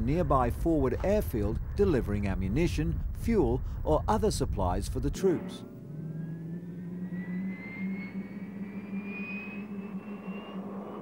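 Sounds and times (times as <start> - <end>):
high turbine whine: 0.0 - 11.0
turboprop engine drone: 0.0 - 11.0.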